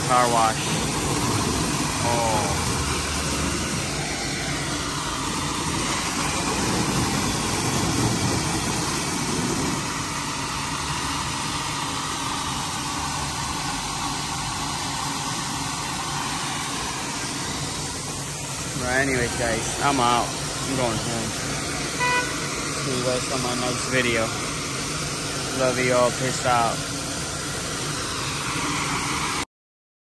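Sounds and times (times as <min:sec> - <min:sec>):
car driving through water: 0:00.0 - 0:29.4
fire hydrant water gushing: 0:00.0 - 0:29.5.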